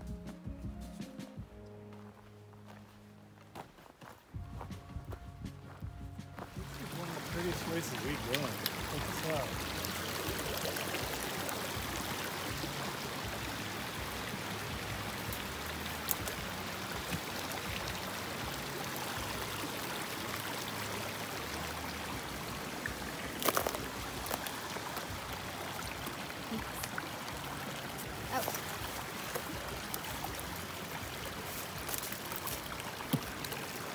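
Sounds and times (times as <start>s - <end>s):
stream running over rocks: 5.8s - 33.9s.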